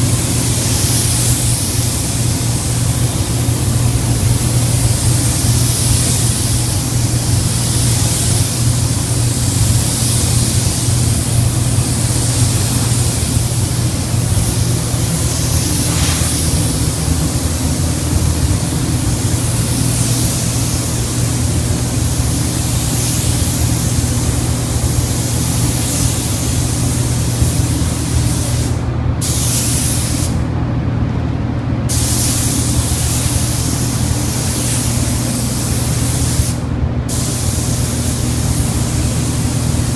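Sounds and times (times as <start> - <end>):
spray gun hissing: 0.0 - 30.4, 31.9 - 39.9
steady low hum: 0.0 - 39.9.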